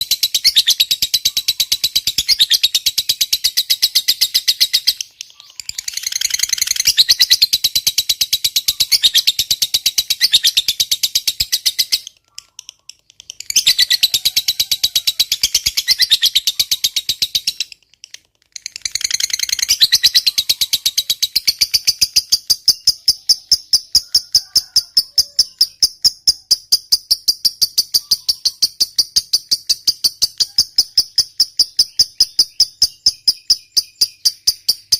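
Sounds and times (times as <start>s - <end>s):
lovebird chattering chirps: 0.0s - 34.9s.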